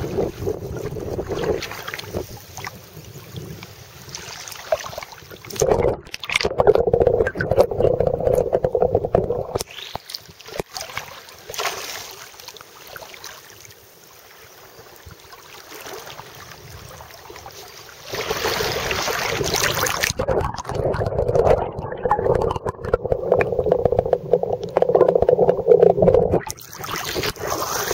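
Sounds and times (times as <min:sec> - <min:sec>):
rush of water: 0:00.0 - 0:27.9
water sloshing and gurgling: 0:00.0 - 0:27.9.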